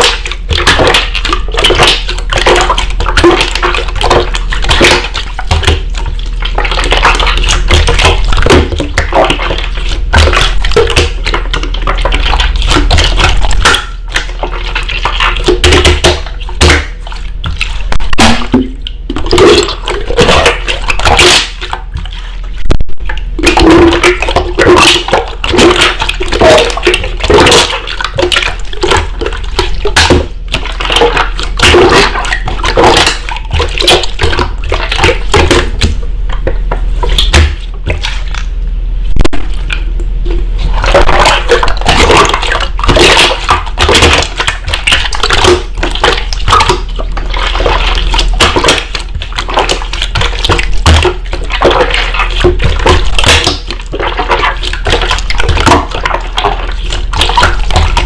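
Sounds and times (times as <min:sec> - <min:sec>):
slime squelching: 0:00.0 - 0:58.0.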